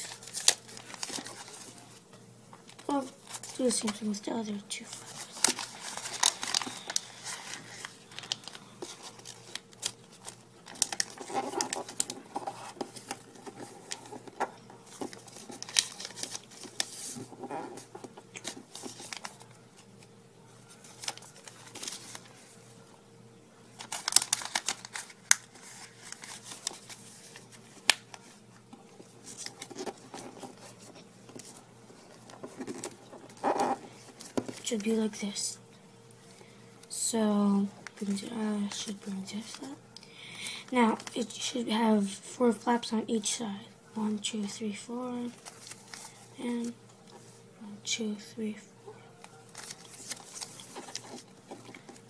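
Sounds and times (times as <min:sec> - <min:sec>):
paper rustling and crinkling: 0:00.0 - 0:22.7, 0:23.7 - 0:35.4, 0:37.5 - 0:39.9, 0:44.1 - 0:47.4, 0:48.9 - 0:52.0.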